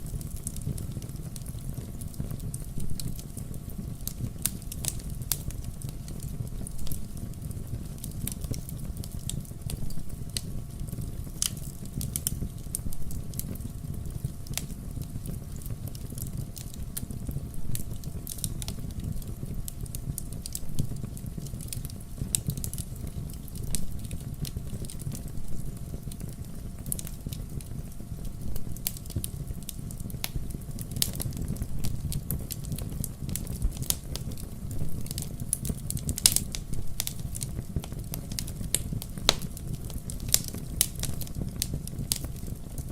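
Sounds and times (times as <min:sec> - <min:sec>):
firewood crackling and popping: 0:00.0 - 0:42.9
low rumble of fire: 0:00.0 - 0:42.9.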